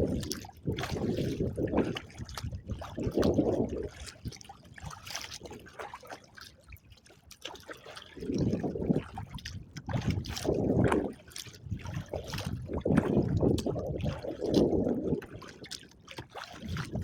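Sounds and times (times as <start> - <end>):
water splashing around a kayak: 0.0 - 17.0.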